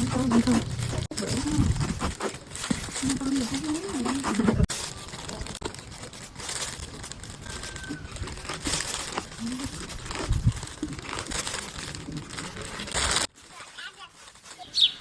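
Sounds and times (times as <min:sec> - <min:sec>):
crinkling and rustling: 0:00.0 - 0:15.0
tearing sounds: 0:00.0 - 0:15.0.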